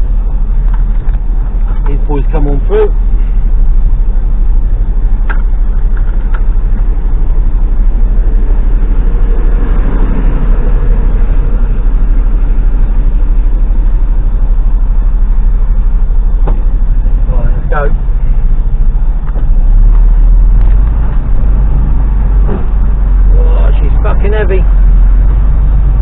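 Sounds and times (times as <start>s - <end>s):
diesel lorry engine idling: 0.0s - 26.0s.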